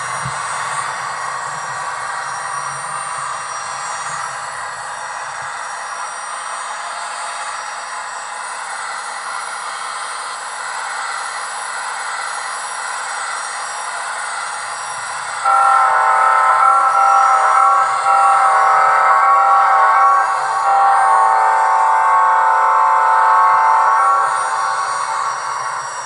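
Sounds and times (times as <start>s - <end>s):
turbine locomotive whine from speaker: 0.0s - 26.0s.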